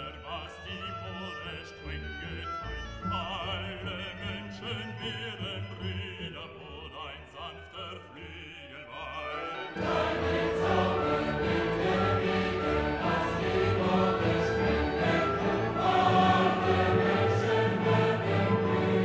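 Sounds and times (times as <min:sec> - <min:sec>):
operatic choral music: 0:00.0 - 0:19.0.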